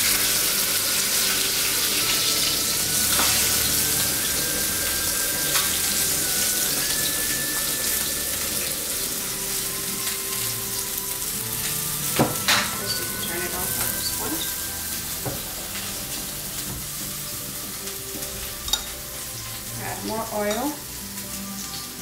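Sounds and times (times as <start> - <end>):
meat sizzling in oil: 0.0 - 22.0.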